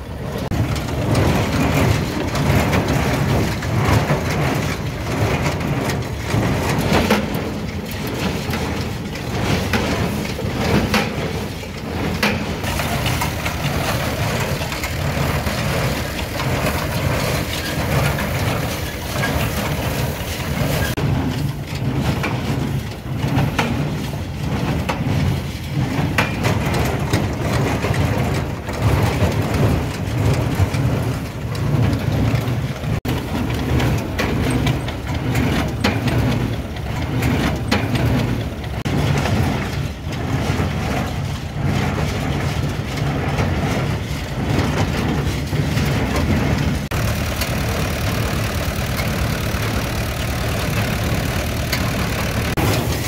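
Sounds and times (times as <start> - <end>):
baler mechanism clattering: 0.0 - 53.0
tractor engine running: 0.0 - 53.0.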